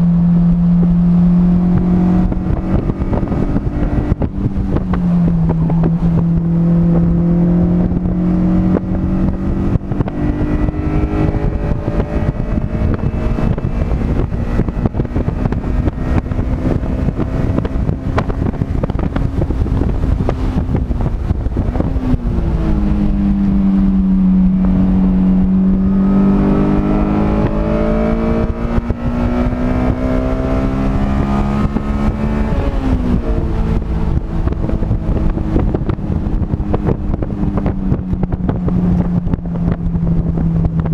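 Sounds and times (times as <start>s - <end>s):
car engine racing under load: 0.0s - 40.9s
wind rushing over microphone: 0.0s - 40.9s.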